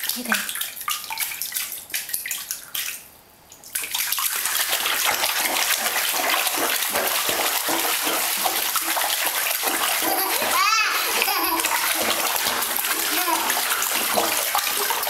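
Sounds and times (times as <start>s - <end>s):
baby splashing bathwater: 0.0s - 15.0s.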